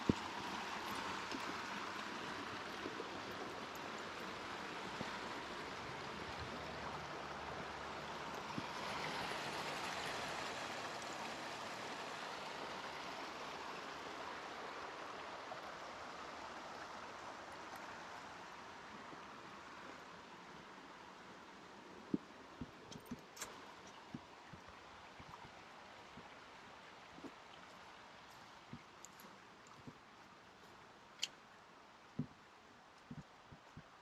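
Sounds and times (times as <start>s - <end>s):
brook water rushing: 0.0s - 34.0s.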